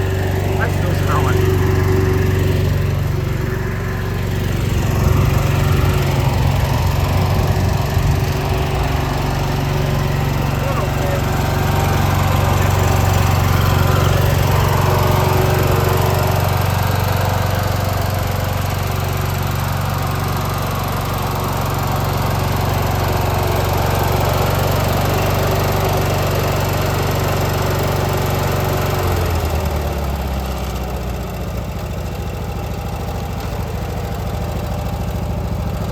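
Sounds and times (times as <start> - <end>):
riding mower engine running: 0.0 - 35.9.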